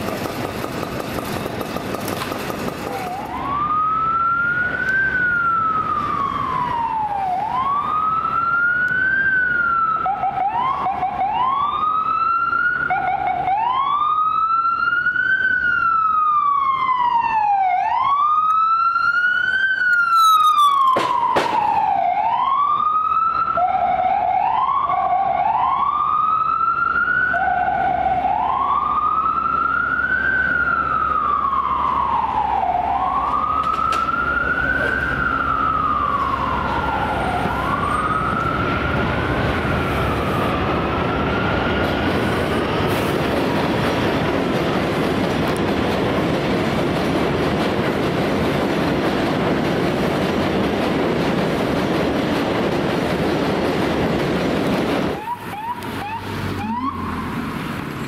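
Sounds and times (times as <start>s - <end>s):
ambulance wail siren: 2.8s - 47.4s, 55.0s - 57.6s.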